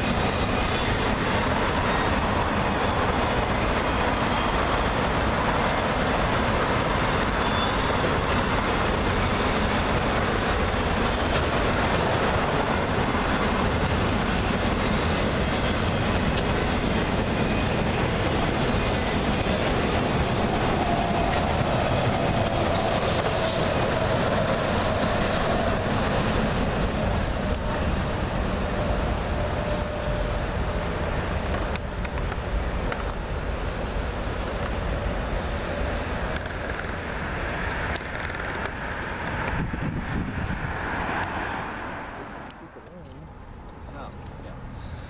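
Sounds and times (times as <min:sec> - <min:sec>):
freight train rolling past: 0:00.0 - 0:42.7.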